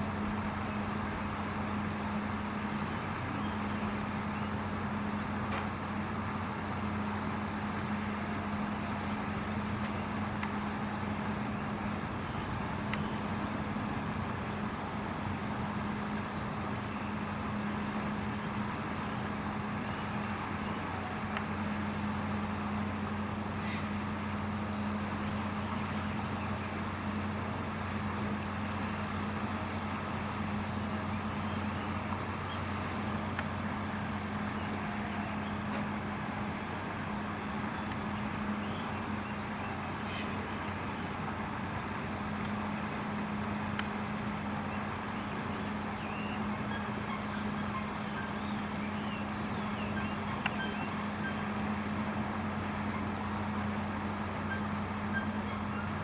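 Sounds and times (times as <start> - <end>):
hiss and rumble: 0.0 - 56.0.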